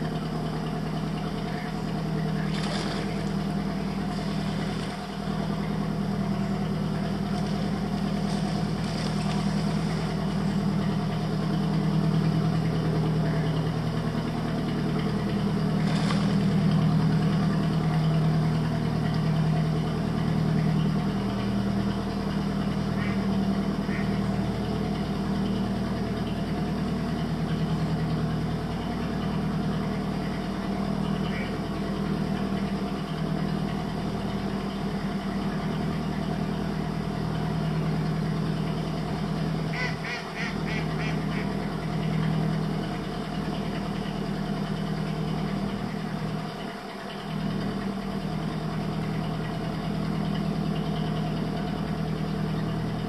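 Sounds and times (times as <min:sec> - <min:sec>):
motorboat engine humming: 0:00.0 - 0:53.0.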